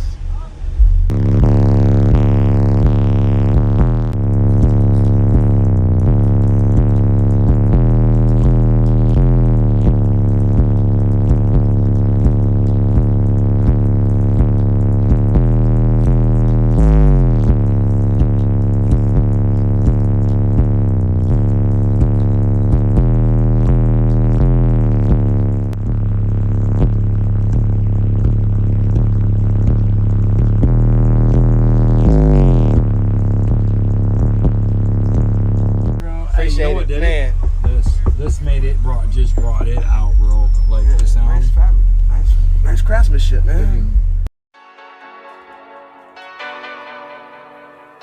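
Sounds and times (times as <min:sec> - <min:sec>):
loud bass music through car speakers: 0:00.0 - 0:44.3.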